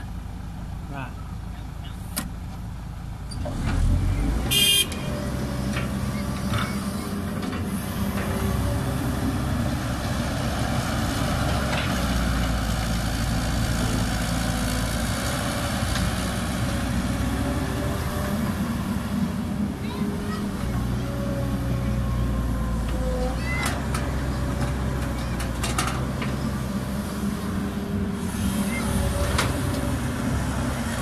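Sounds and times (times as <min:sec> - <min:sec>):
excavator diesel engine under load: 0:00.0 - 0:31.0.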